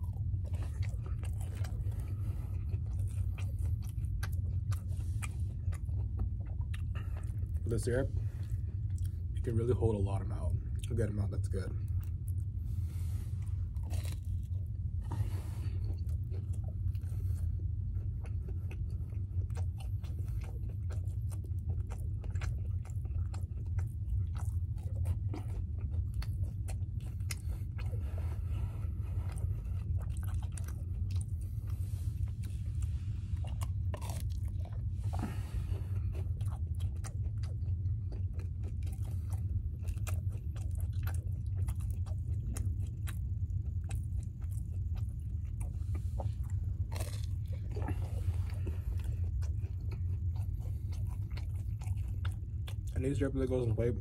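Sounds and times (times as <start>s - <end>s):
chewing and biting: 0.0s - 54.0s
steady low hum: 0.0s - 54.0s.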